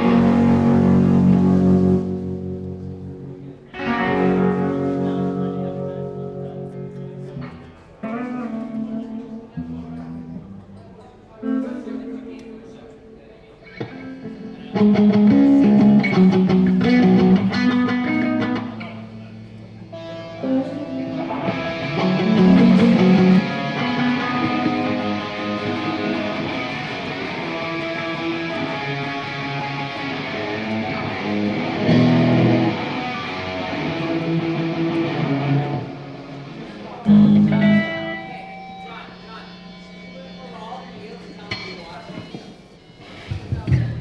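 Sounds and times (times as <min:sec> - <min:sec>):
electric guitar playing: 0:00.0 - 0:10.8, 0:13.6 - 0:42.9.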